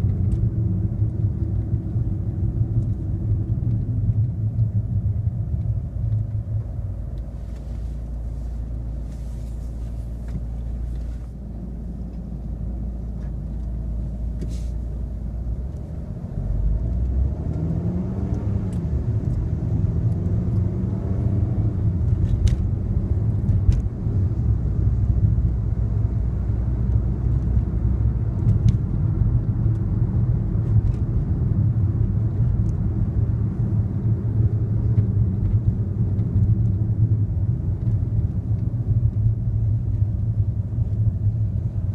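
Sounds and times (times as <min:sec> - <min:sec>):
car engine: 0:00.0 - 0:41.9
road rumble: 0:00.0 - 0:41.9.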